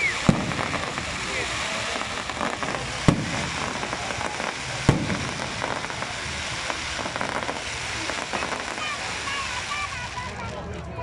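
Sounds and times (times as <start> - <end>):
firework shell booms: 0.0 - 10.0
fireworks crackling: 0.0 - 11.0.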